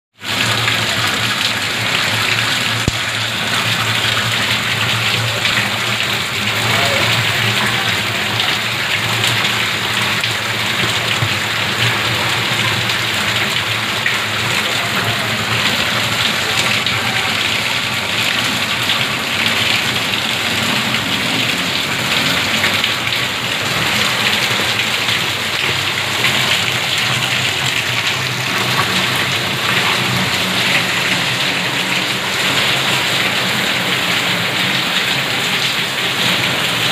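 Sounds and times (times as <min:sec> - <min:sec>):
heavy rain on pavement and roofs: 0:00.1 - 0:36.9.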